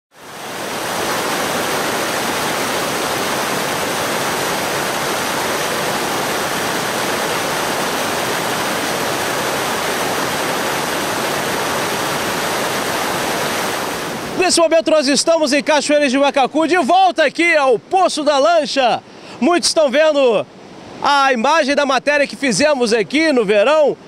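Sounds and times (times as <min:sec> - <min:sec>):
river rushing over rocks: 0:00.1 - 0:24.0.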